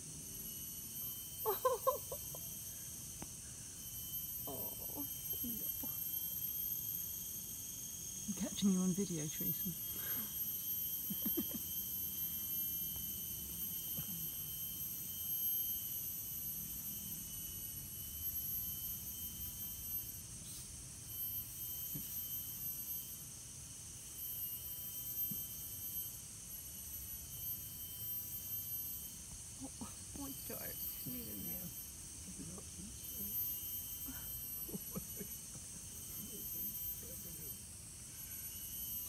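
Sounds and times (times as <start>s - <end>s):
insects droning: 0.0s - 39.0s.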